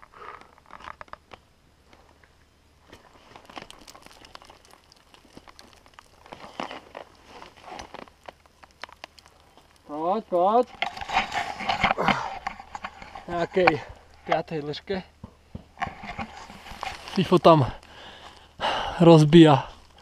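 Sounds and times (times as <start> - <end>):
clothing crinkling and crunching: 0.0 - 14.5, 15.7 - 18.6, 19.2 - 20.0.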